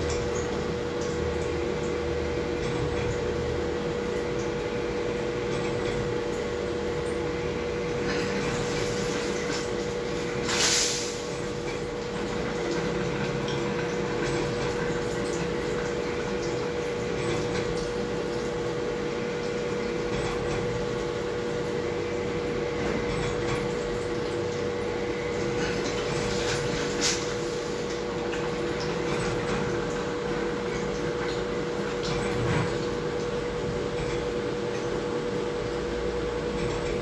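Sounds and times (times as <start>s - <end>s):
coolant splashing: 0.0s - 37.0s.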